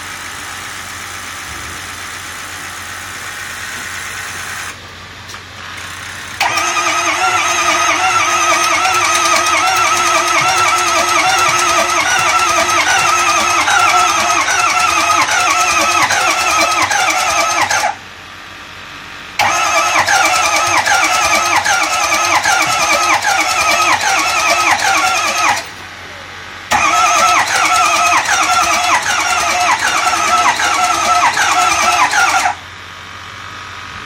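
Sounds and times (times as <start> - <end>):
diesel engine cranking on starter: 0.2 - 18.2, 19.2 - 26.0, 26.6 - 33.9.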